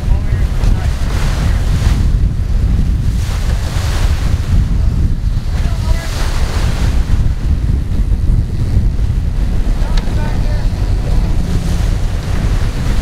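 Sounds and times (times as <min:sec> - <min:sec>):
water rushing and splashing: 0:00.0 - 0:13.0
wind buffeting microphone: 0:00.0 - 0:13.0.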